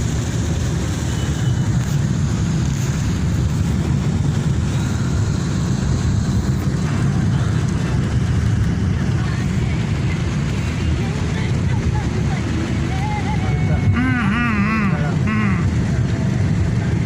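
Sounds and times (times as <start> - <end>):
heavy rain hissing on wet road: 0.0 - 17.0
vehicle rumbling on road: 0.0 - 17.0.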